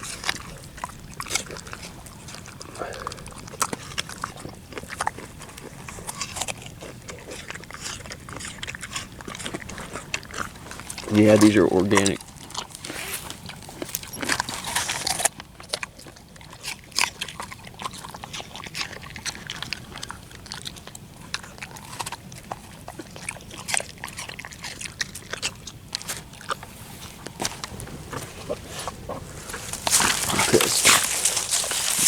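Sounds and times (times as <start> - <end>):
dog chewing apple pieces: 0.0 - 32.0.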